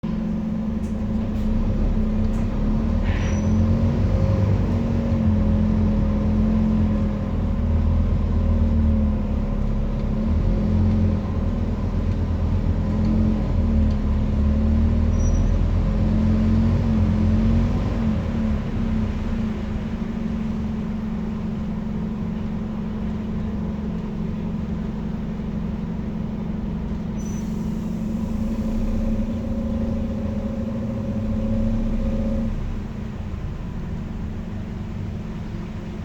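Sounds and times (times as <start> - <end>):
bus diesel engine accelerating: 0.0 - 36.0.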